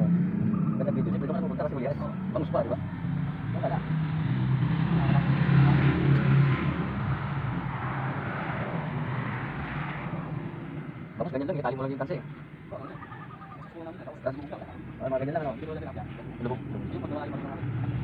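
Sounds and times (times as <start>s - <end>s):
vehicle engine passing by: 0.0s - 18.0s.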